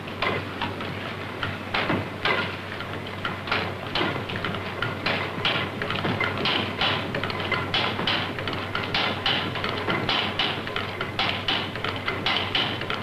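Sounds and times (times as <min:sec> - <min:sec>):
engine knocking and clattering: 0:00.0 - 0:13.0
steady low hum: 0:00.0 - 0:13.0.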